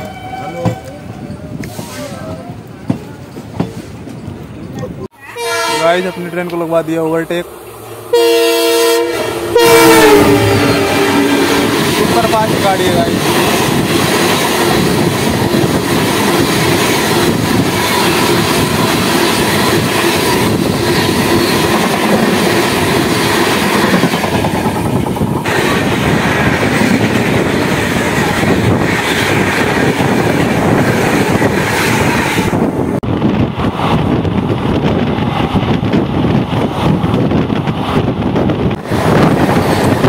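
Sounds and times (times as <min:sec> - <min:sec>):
train passing closely: 0:00.0 - 0:40.0.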